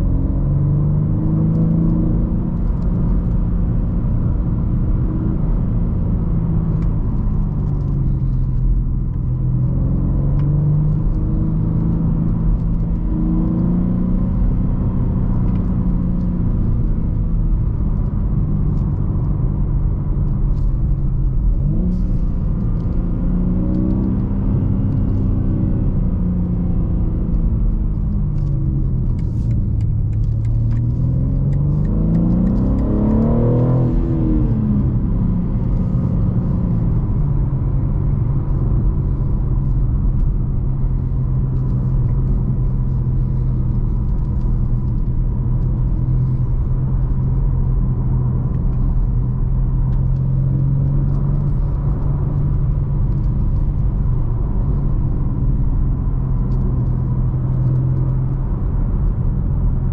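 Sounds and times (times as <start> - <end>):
car engine revving: 0.0 - 59.9
low rumble of road noise: 0.0 - 59.9.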